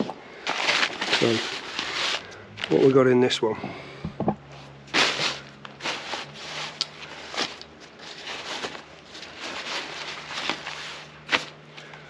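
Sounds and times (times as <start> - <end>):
bag rustling: 0.0 - 3.0, 4.5 - 12.0.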